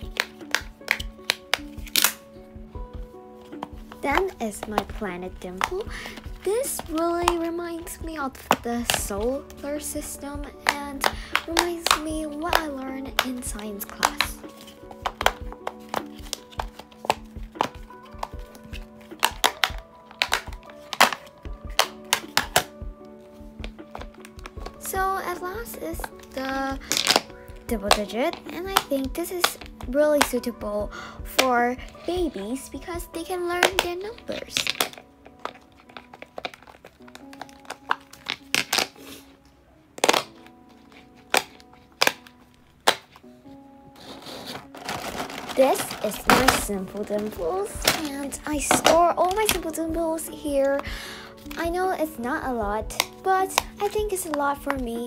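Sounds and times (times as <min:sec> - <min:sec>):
soft background music: 0:00.0 - 0:55.0.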